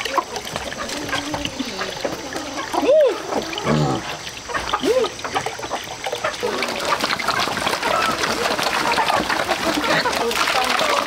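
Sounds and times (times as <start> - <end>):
pigs slurping at a trough: 0.0 - 11.0
pig calls: 0.1 - 10.4.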